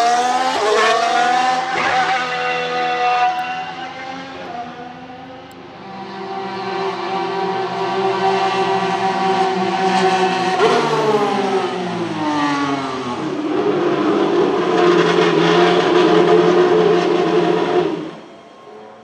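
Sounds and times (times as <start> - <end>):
racing car engine: 0.0 - 19.0.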